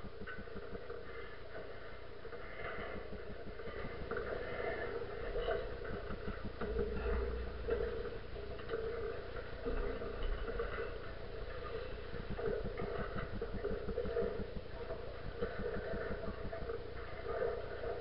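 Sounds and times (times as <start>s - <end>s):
rigging rattling and ticking: 0.0s - 18.0s.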